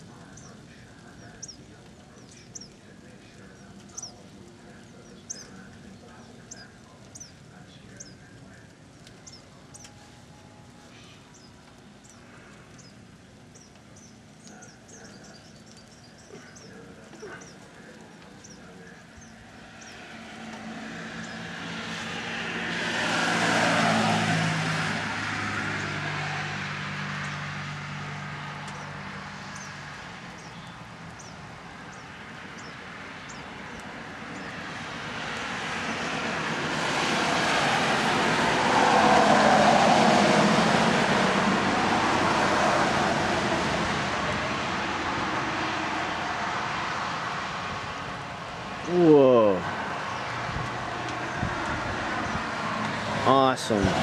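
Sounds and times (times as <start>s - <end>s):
vehicle approaching: 0.0s - 54.0s
vehicle passing by: 0.0s - 54.0s.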